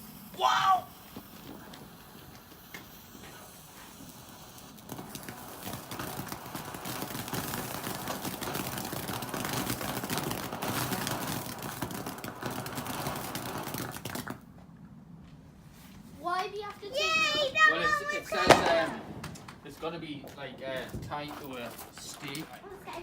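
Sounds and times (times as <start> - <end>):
firework burning with crackles: 0.0 - 14.9, 15.6 - 23.0.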